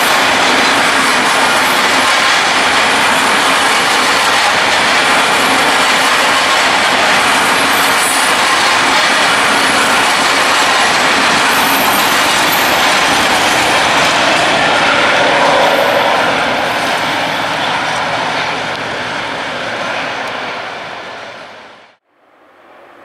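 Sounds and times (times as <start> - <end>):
steel wheels rolling on rails: 0.0 - 21.4.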